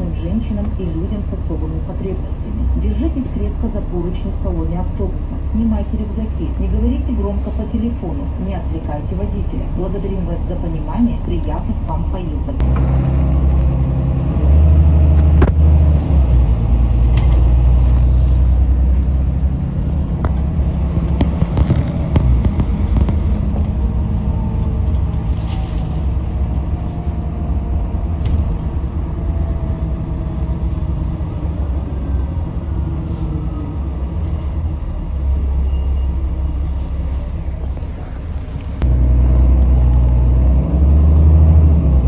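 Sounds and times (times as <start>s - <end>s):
bus engine rumbling: 0.0s - 42.0s.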